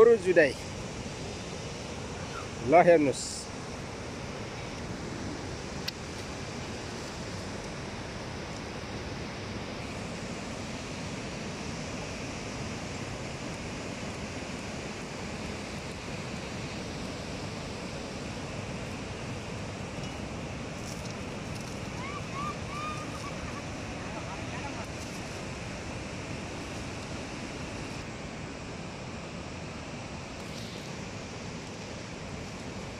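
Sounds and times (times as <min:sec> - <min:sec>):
mountain river rushing: 0:00.0 - 0:32.9.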